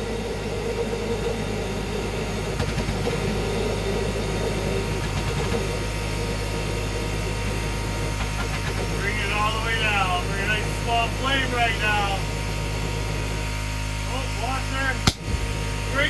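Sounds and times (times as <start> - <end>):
gas flame rumbling: 0.0 - 16.0.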